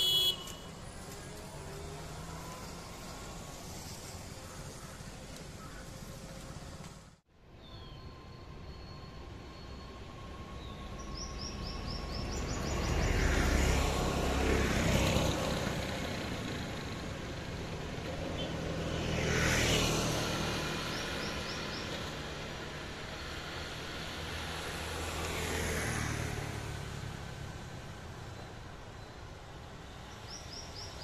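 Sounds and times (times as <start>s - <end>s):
vehicles passing with tyre hiss: 0.0s - 31.0s.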